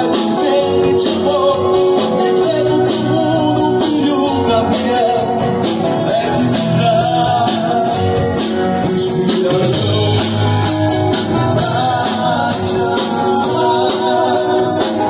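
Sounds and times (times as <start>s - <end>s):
song with guitar and percussion: 0.0s - 15.0s.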